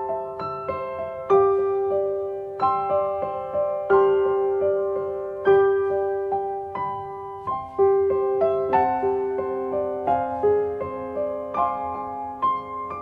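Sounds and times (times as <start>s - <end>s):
gentle solo piano music: 0.0s - 13.0s.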